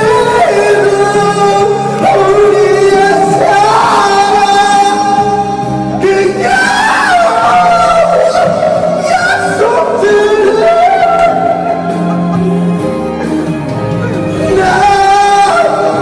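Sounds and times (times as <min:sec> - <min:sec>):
musical accompaniment: 0:00.0 - 0:16.0
voices singing long notes: 0:00.0 - 0:16.0.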